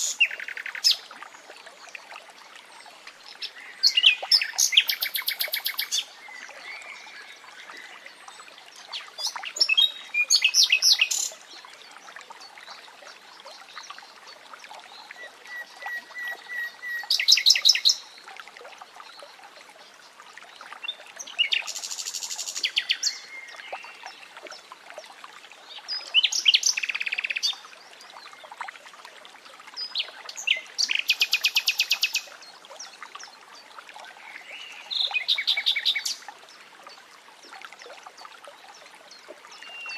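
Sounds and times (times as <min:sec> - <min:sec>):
faint running water: 0:00.0 - 0:39.9.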